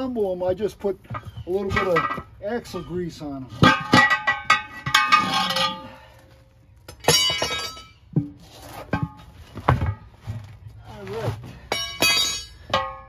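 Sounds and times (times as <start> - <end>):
tire irons clanking on metal: 1.0 - 2.8, 3.4 - 10.6, 11.4 - 13.0.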